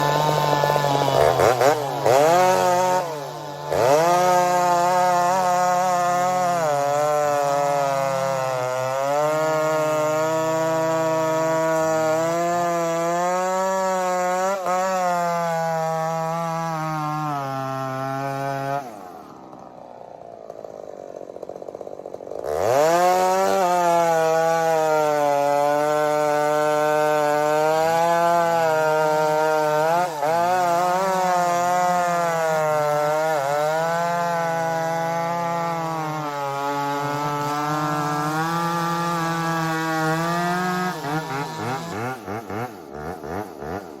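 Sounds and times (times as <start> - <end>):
chainsaw revving and cutting wood: 0.0 - 44.0.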